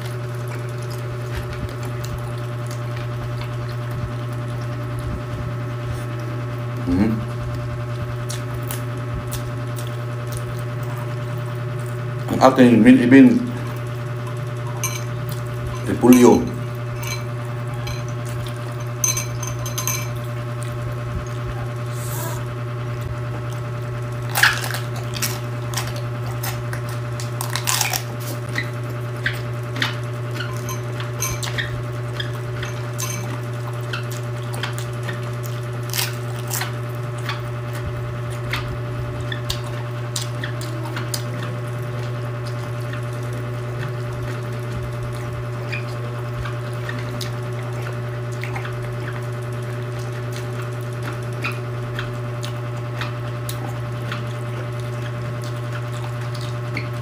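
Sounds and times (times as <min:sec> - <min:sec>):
chewing raw cabbage: 0:00.0 - 0:57.0.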